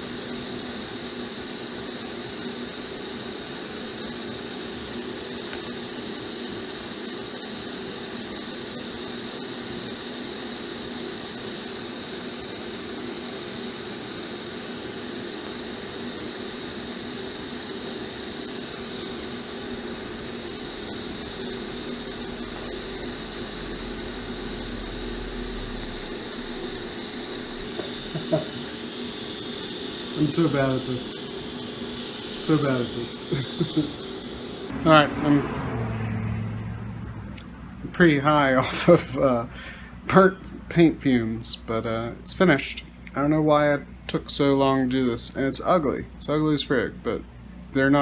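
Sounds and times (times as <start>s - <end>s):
welding arc buzzing: 0.0s - 48.0s.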